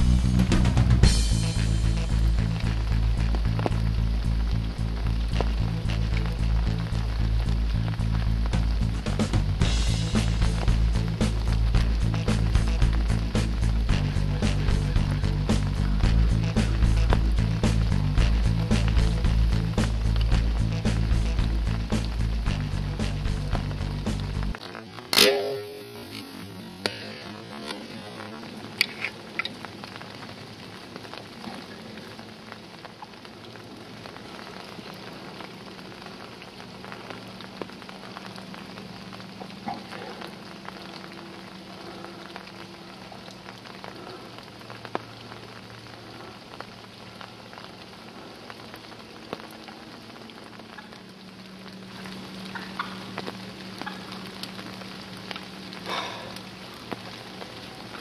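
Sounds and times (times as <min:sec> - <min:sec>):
light rain on leaves: 0:00.0 - 0:58.0
water drips ticking: 0:00.0 - 0:58.0.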